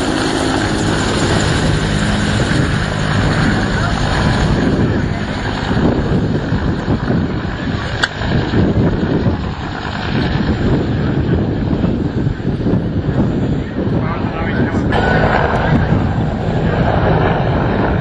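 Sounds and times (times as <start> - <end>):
helicopter rotor and turbine: 0.0 - 18.0.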